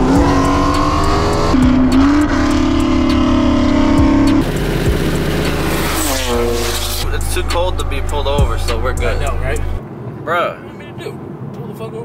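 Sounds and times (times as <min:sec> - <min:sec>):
car engines at full throttle: 0:00.0 - 0:10.2.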